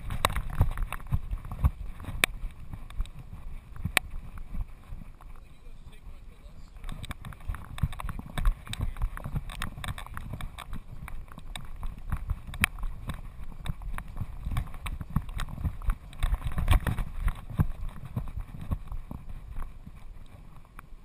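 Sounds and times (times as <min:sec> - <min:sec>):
dog paws clicking on rock: 0:00.0 - 0:20.9.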